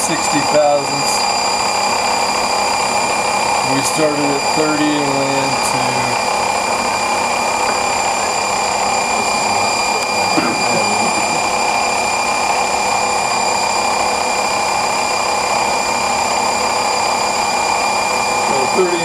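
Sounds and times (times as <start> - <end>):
constant mechanical hum: 0.0 - 19.0
high-pitched machine whines: 0.0 - 19.0.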